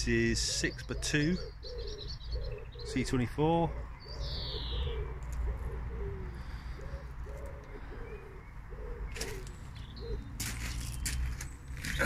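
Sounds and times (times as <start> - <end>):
pigeon cooing: 0.0 - 10.9.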